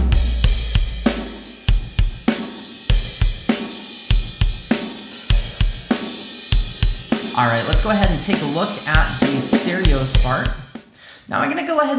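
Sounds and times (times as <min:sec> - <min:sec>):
drum kit beat: 0:00.0 - 0:11.0.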